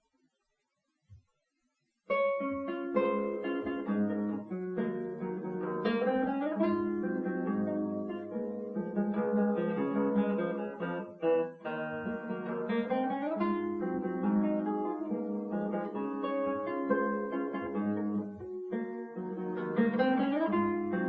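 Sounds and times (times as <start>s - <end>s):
classical guitar playing: 2.1s - 21.0s.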